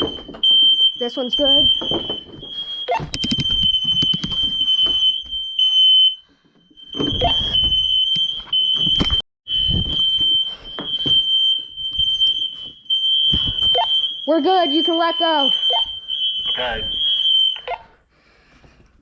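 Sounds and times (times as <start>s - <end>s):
smoke alarms high-pitched tone: 0.0s - 18.1s.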